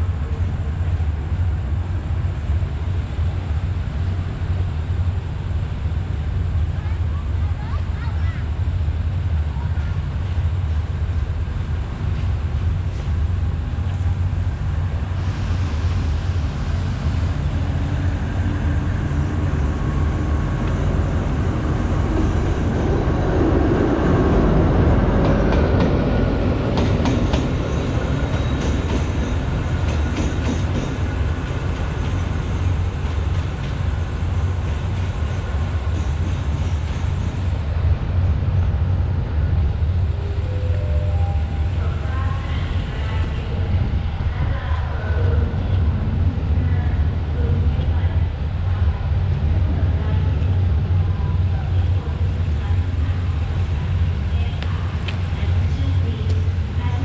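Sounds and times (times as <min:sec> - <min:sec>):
steady low rumble: 0:00.0 - 0:57.0
train passing: 0:00.0 - 0:57.0.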